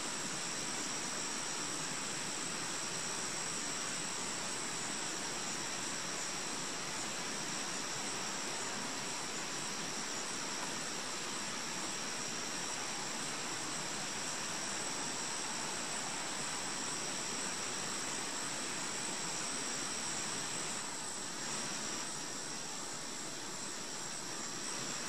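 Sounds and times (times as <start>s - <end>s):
outdoor background hiss: 0.0s - 25.0s
thin high-pitched whine: 0.0s - 25.0s.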